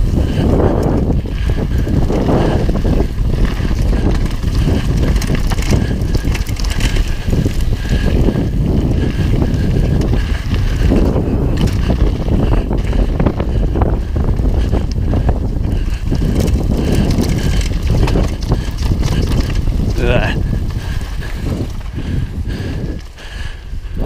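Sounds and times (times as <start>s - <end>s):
tyres on gravel: 0.0s - 23.3s
bike clicks and rattles: 0.0s - 24.0s
wind buffeting microphone: 0.0s - 24.0s.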